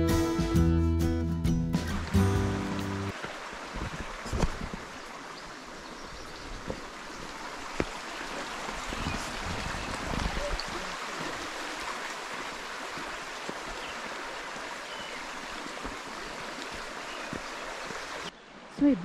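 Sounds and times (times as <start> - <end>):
creek flowing over rocks: 1.8 - 19.0.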